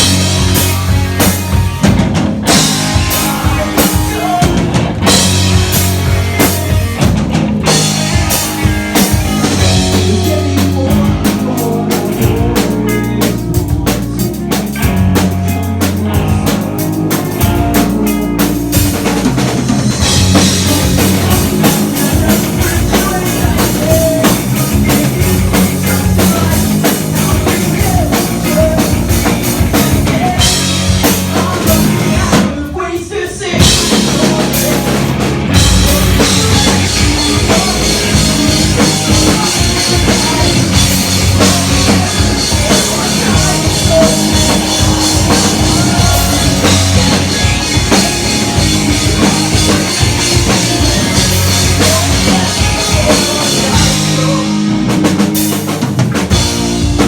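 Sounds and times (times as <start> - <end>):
rock band playing pop-punk: 0.0 - 57.0.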